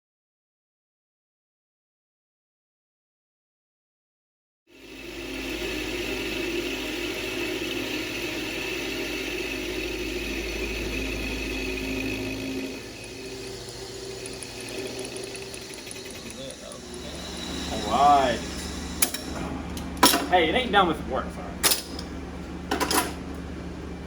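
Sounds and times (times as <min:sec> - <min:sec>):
metal lathe running: 0:04.7 - 0:24.0.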